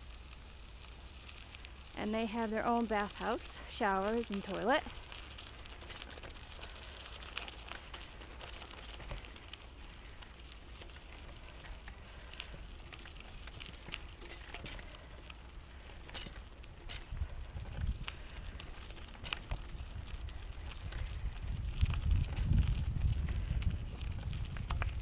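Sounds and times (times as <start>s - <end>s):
gravel crunching under wheels: 0.0s - 25.0s
steady low rumble: 0.0s - 25.0s.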